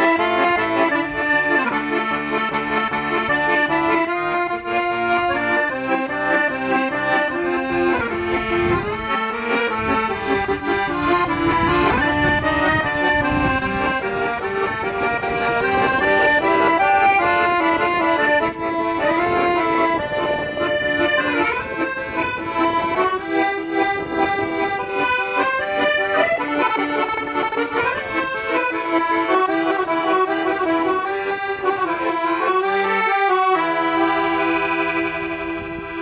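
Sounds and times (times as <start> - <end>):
accordion playing lively melody: 0.0 - 36.0.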